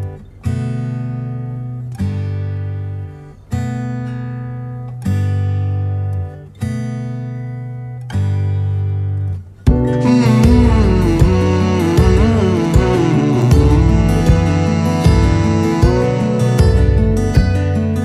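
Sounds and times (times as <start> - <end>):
acoustic guitar chords strummed: 0.0 - 18.0.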